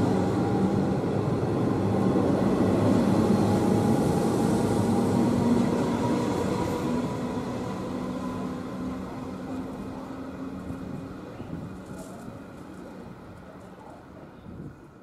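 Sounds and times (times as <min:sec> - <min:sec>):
electric train departing: 0:00.0 - 0:15.0.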